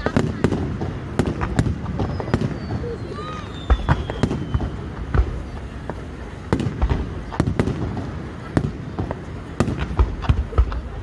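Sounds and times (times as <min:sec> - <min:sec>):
fireworks popping and crackling: 0:00.0 - 0:11.0
fireworks shells booming: 0:00.0 - 0:11.0.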